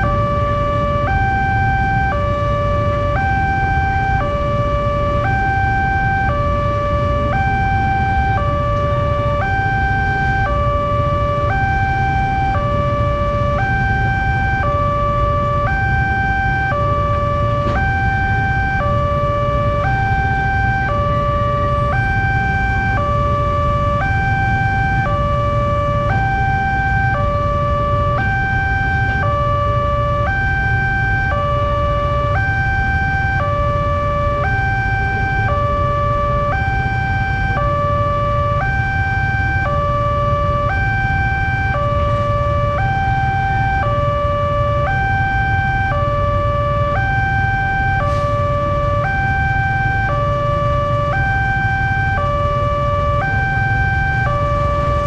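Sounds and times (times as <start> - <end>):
two-tone electronic warning alarm: 0.0 - 55.0.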